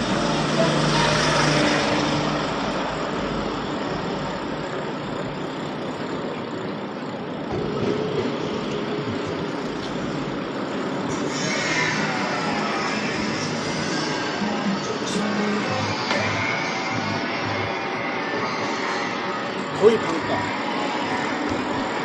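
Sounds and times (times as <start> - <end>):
tyres on road: 0.0 - 22.0
vehicle engines: 0.0 - 22.0.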